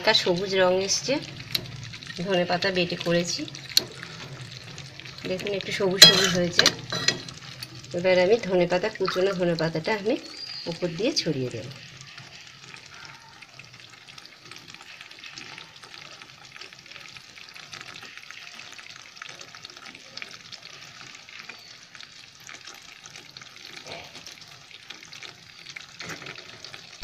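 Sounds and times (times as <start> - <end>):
curry sizzling and crackling: 0.0 - 27.0.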